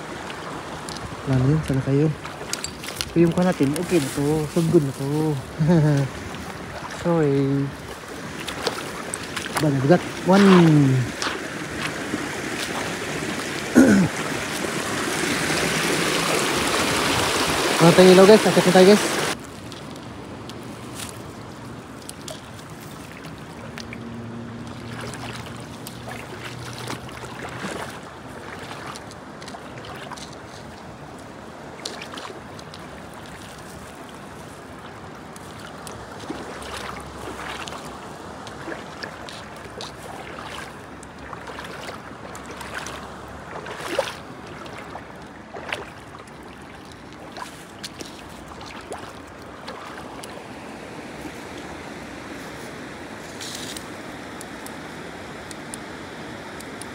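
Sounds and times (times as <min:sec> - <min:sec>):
river water splashing: 0:00.0 - 0:56.9
rushing water: 0:00.0 - 0:56.9
wind: 0:00.0 - 0:56.9.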